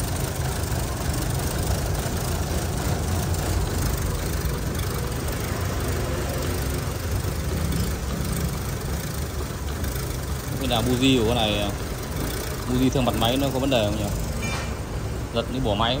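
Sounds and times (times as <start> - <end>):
car engine idling unevenly: 0.0 - 16.0.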